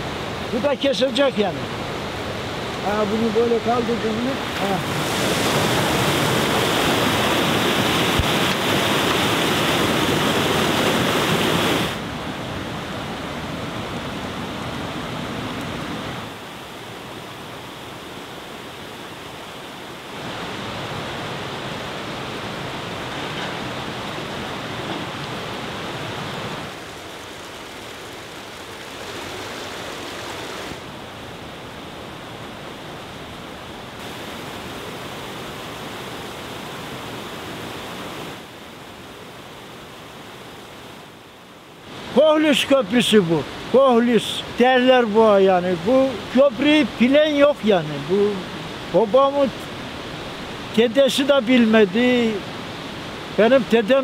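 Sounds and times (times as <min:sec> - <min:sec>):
rushing stream water: 0:00.0 - 0:54.0.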